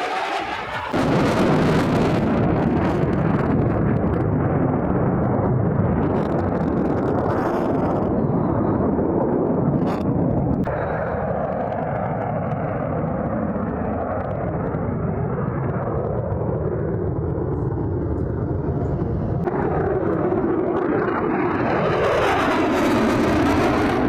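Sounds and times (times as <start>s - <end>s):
loud jet engine noise: 0.0s - 24.0s.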